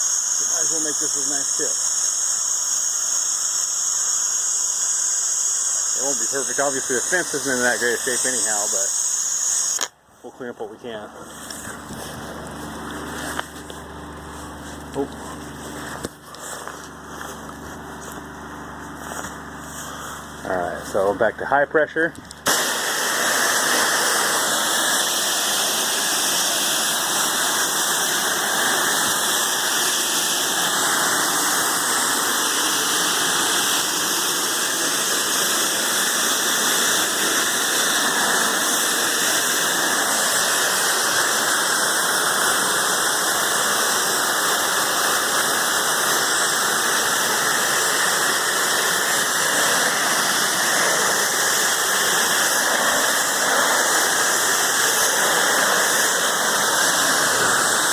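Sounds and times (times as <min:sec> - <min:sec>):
pressure washer spraying siding: 0:00.0 - 0:10.0, 0:10.8 - 0:57.9.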